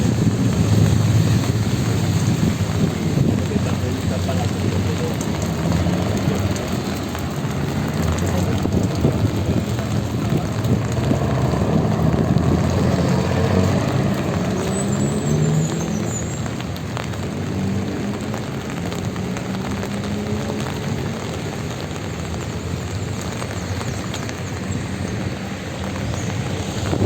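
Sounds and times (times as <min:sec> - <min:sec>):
rain falling: 0:00.0 - 0:27.0
vehicles passing on wet road: 0:00.0 - 0:27.0.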